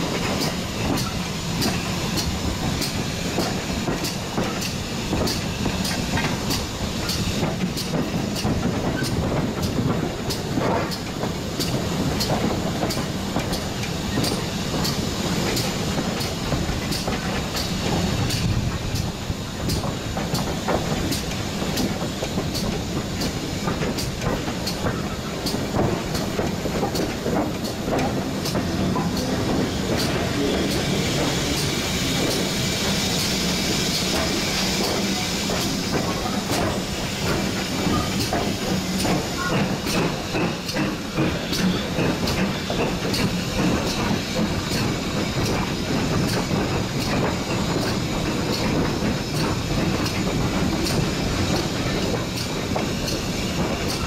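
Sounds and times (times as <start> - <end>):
steam hissing: 0.0 - 54.0
steam locomotive running rumble: 0.0 - 54.0.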